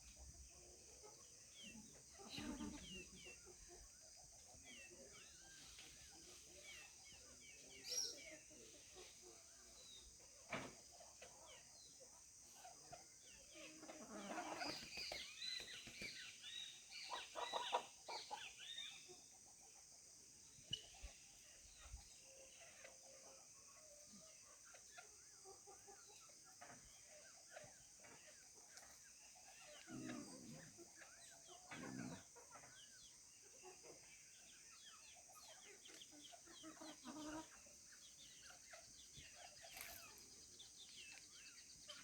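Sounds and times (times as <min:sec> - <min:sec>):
chickens clucking and calling: 0:00.0 - 0:42.0.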